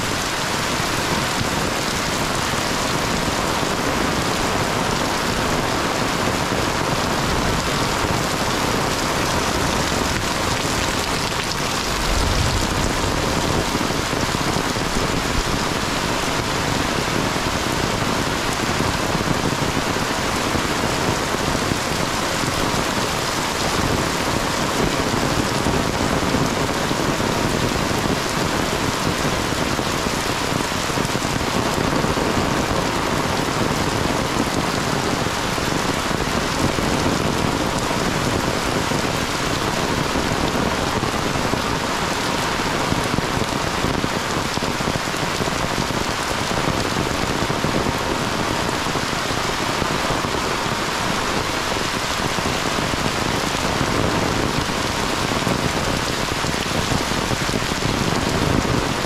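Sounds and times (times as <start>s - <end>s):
heavy rain pouring on pavement: 0.0s - 59.0s.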